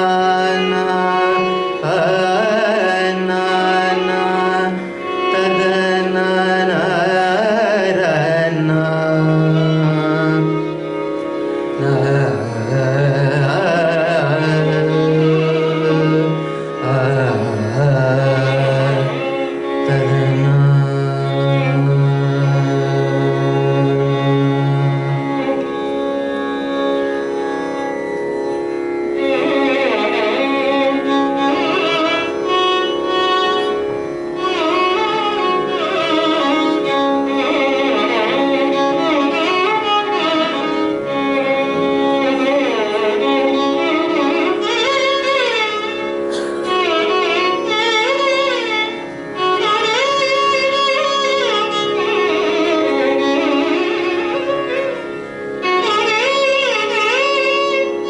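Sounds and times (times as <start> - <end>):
violin melody with sliding notes: 0.0 - 58.0.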